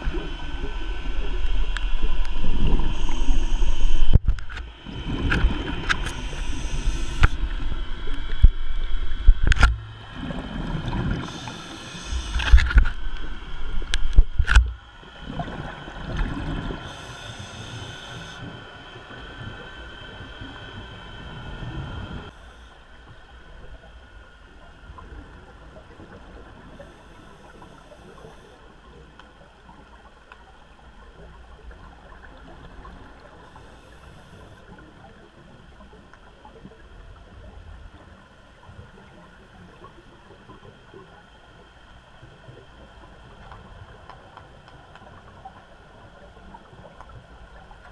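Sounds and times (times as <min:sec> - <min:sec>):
faint water noise: 0:00.0 - 0:47.9
vessel engine and propeller hum: 0:00.0 - 0:47.9.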